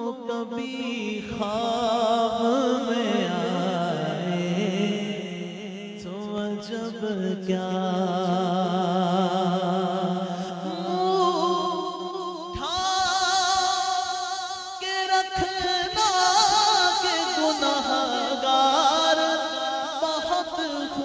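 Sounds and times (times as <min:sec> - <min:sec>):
man singing into a microphone: 0:00.0 - 0:21.0.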